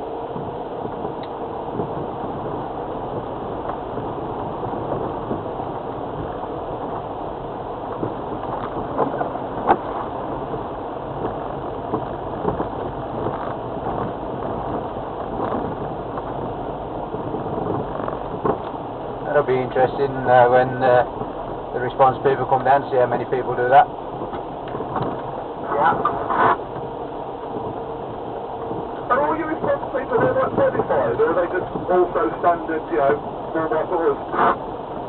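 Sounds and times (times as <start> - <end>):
car engine and tyres rumbling: 0.0 - 35.0.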